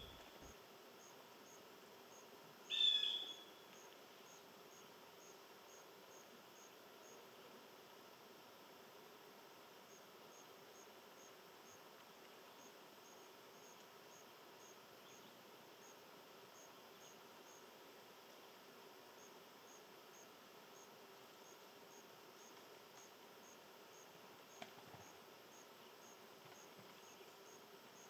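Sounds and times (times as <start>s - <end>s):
insect chirping: 0.0s - 7.2s, 9.5s - 11.9s, 12.5s - 28.0s
low steady background hiss: 0.0s - 28.0s.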